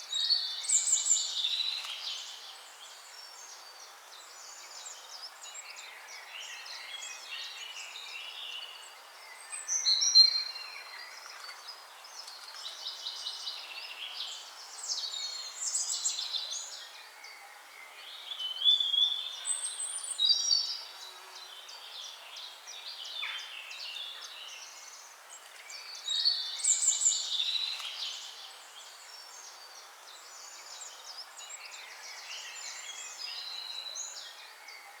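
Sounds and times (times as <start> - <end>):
songbirds singing and calling: 0.0 - 35.0.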